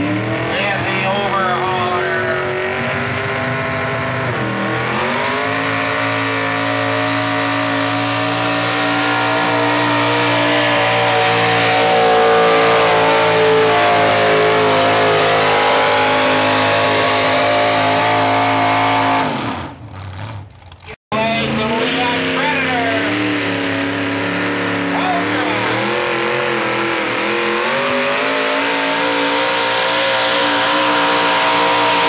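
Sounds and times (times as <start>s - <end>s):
truck engine at full throttle: 0.0s - 32.0s.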